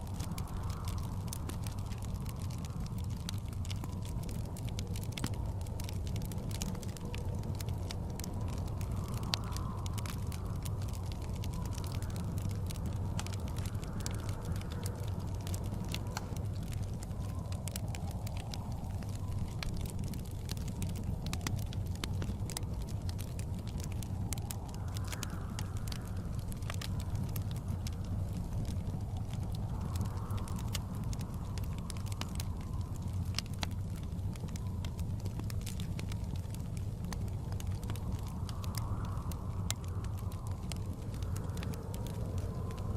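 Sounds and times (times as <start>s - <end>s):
blizzard wind rumble: 0.0s - 42.9s
fireplace crackling and popping: 0.0s - 42.9s.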